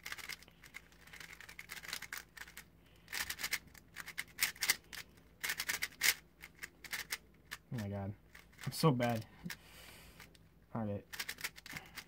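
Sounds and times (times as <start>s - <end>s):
puzzle cube clicking: 0.0s - 9.2s, 11.1s - 12.0s.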